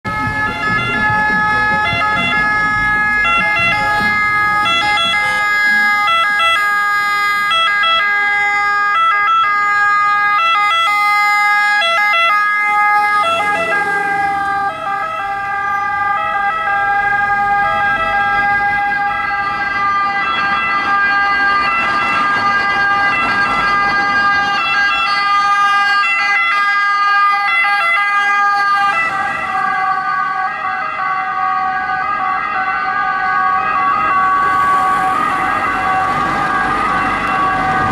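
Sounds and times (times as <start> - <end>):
ambulance two-tone siren: 0.0 - 37.9
engine and road noise: 0.0 - 37.9.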